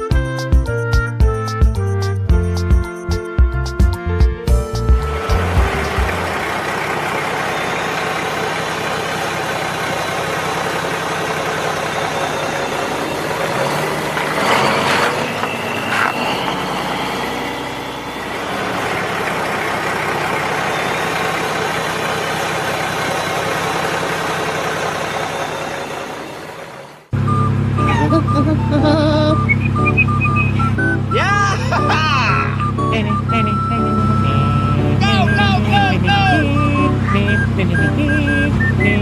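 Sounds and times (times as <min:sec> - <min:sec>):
engine running: 0:04.4 - 0:39.0.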